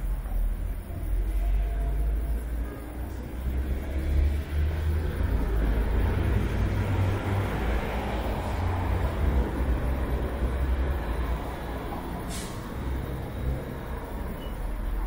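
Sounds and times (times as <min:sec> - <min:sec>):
passing cars rumbling: 0:00.0 - 0:15.0.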